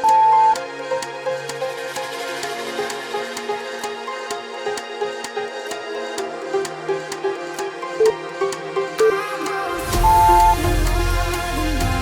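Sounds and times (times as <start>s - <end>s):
electronic workout music: 0.0s - 12.0s.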